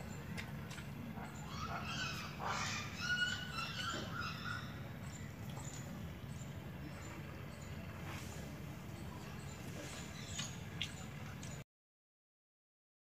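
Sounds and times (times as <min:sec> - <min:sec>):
small birds chirping: 0:00.0 - 0:11.6
steady low hum: 0:00.0 - 0:11.6.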